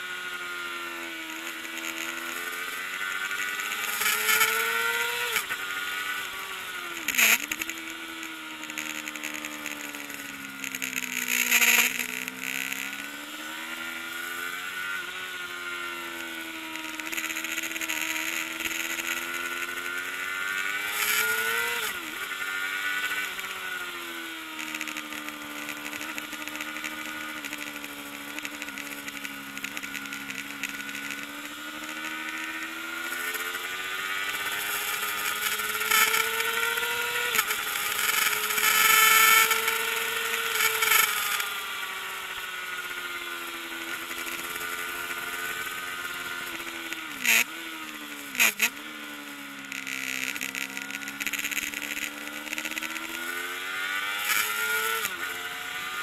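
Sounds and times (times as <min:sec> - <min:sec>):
racing motorcycle engine revving: 0:00.0 - 0:56.0.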